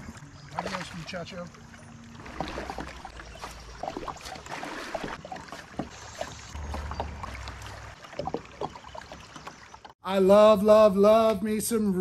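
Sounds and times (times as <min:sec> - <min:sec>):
water lapping against kayak: 0:00.0 - 0:10.0.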